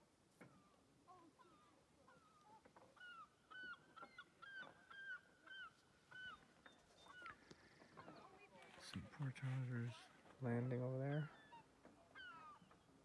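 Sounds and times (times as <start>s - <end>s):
distant birds honking: 0.4s - 8.6s, 9.2s - 13.0s.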